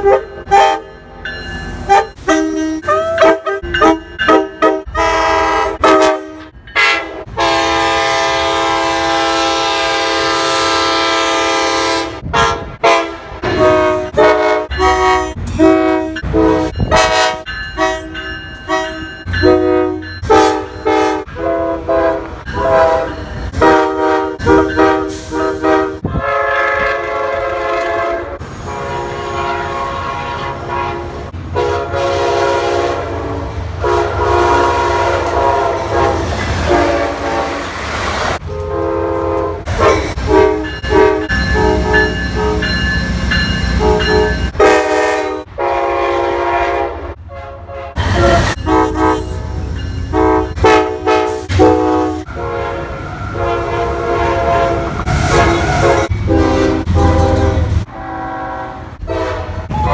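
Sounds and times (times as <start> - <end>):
locomotive air horn blasts: 0.0 - 1.0, 1.8 - 37.7, 38.4 - 42.7, 43.8 - 59.9
train rumble and wheel clatter: 0.0 - 59.9.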